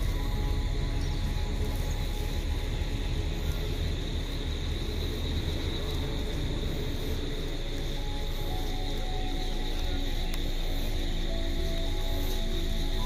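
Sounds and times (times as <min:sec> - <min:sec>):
high-pitched drone: 0:00.0 - 0:13.0
low rumble: 0:00.0 - 0:13.0.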